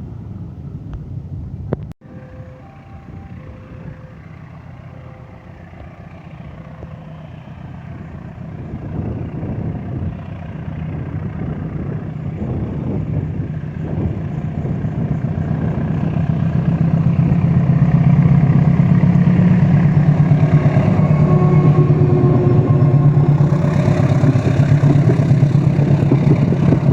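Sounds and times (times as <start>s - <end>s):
diesel locomotive engine humming: 0.0s - 26.9s.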